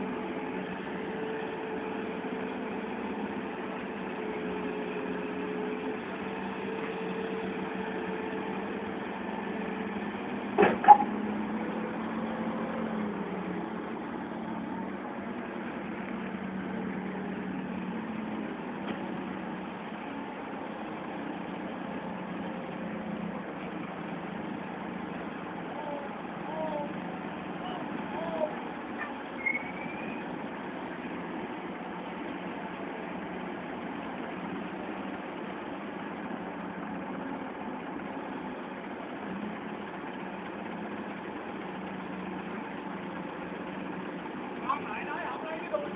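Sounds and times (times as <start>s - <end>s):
forklift engines running: 0.0s - 45.9s.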